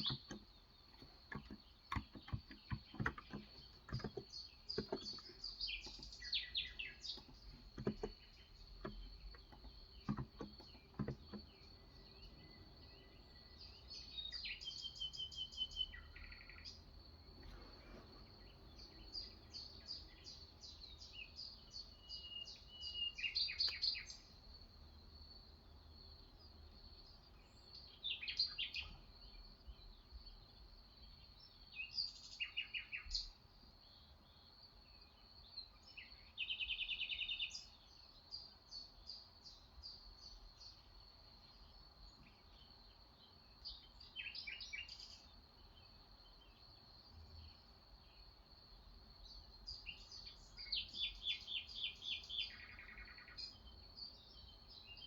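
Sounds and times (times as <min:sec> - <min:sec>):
small birds singing: 0:00.0 - 0:55.0.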